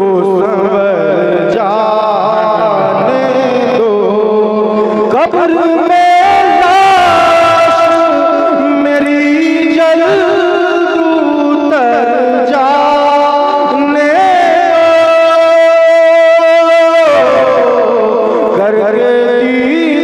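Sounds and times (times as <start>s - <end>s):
person singing devotional melody: 0.0s - 20.0s.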